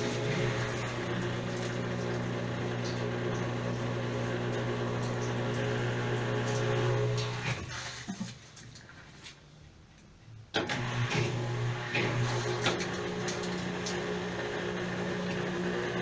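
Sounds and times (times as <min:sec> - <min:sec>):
washing machine running: 0:00.0 - 0:08.1, 0:10.6 - 0:16.0.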